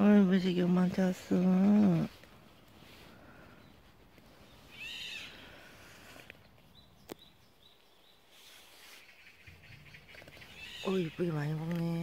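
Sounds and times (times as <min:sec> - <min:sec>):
forest ambience: 0:00.0 - 0:12.0.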